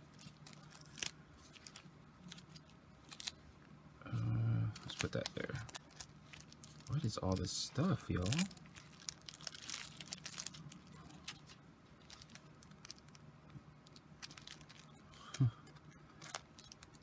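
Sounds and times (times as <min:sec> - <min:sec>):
paper and plastic crinkling: 0:00.0 - 0:03.4, 0:04.7 - 0:17.0.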